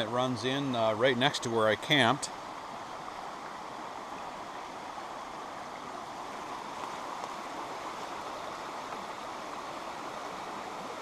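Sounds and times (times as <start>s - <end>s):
stream flowing and burbling: 0.0s - 11.0s.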